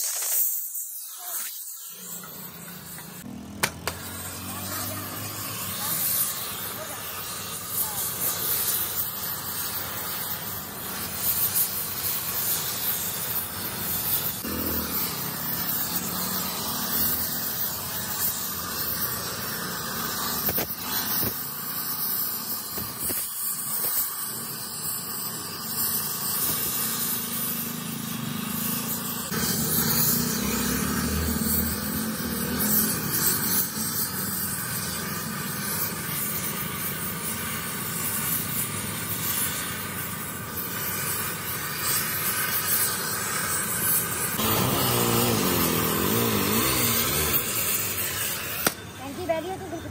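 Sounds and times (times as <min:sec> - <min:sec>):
welding torch flame hissing: 0:00.0 - 0:49.9.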